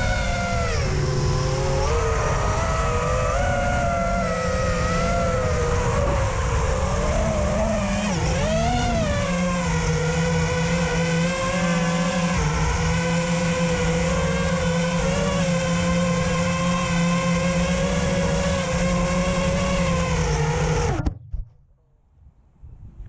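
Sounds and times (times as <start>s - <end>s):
drone motors whining: 0.0s - 21.2s
faint wind: 0.0s - 23.0s.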